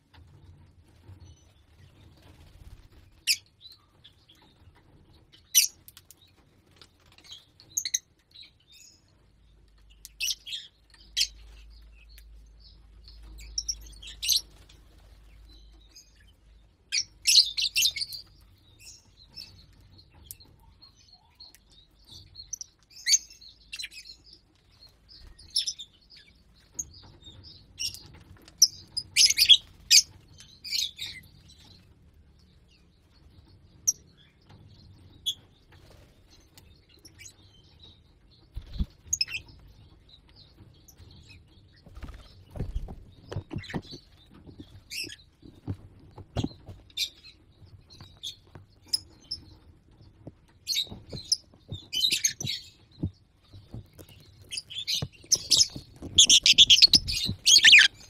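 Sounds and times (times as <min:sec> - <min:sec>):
lovebirds chirping: 0:01.2 - 0:58.0.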